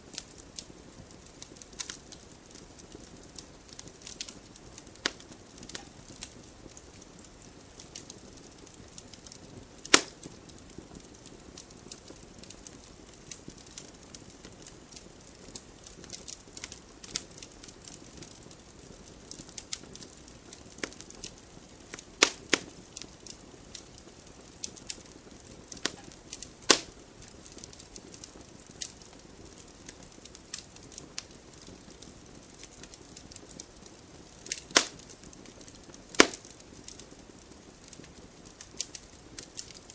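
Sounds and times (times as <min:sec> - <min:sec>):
wood fire crackling: 0:00.0 - 0:39.9
sharp fire pops: 0:00.1 - 0:39.9.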